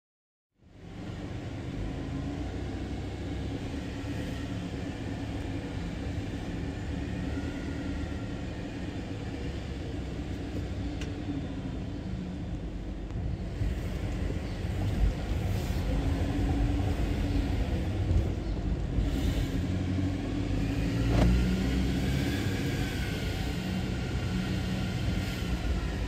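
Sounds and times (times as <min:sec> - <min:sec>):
car engine and road noise: 0:00.6 - 0:26.0.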